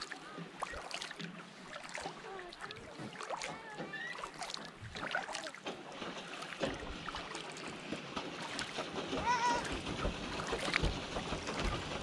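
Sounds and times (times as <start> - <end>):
distant voices and calls: 0.0 - 12.0
paddle splashes and knocks: 0.0 - 12.0.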